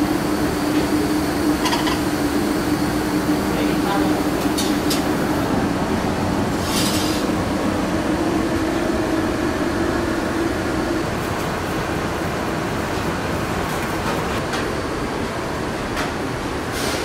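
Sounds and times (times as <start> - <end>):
kitchen ventilation rushing: 0.0 - 17.0.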